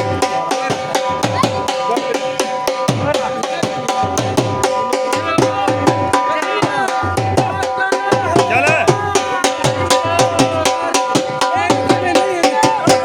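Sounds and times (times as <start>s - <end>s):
dhol drumming: 0.0s - 13.0s
held instrument notes: 0.0s - 13.0s.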